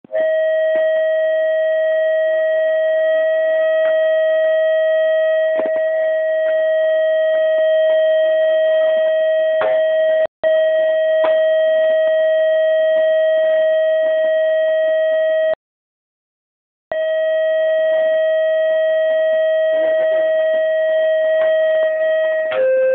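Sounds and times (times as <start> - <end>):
loud electronic tone: 0.1 - 15.6, 16.9 - 22.9.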